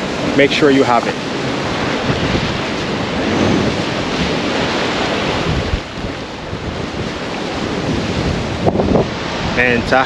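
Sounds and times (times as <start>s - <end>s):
ocean waves surging on shore: 0.0s - 10.0s
wind buffeting microphone: 0.0s - 10.0s.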